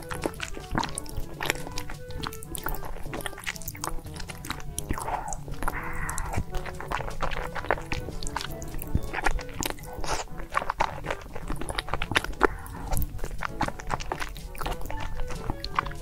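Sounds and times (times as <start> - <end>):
background music: 0.0 - 16.0
wet chewing and biting: 0.0 - 16.0.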